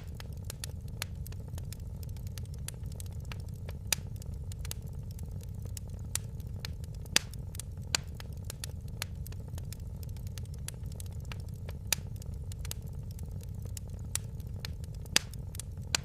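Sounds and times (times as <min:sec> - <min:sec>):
low rumble of burning fire: 0:00.0 - 0:16.0
wood fire crackling and popping: 0:00.0 - 0:16.0.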